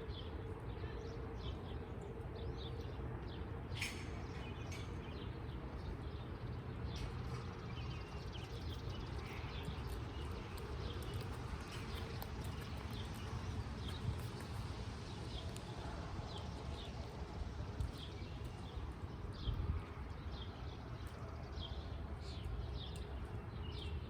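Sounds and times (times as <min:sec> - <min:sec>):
steady low rumble: 0:00.0 - 0:24.0
small birds chirping: 0:00.1 - 0:24.0.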